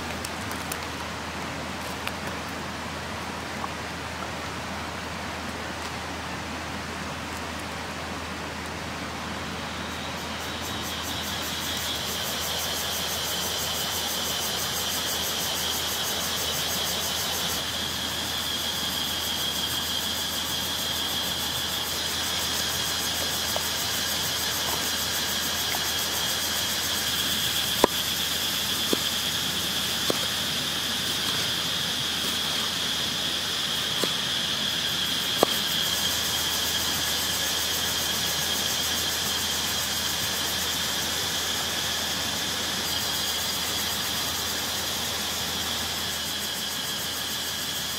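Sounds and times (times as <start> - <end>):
forest insects droning: 0.0 - 47.9.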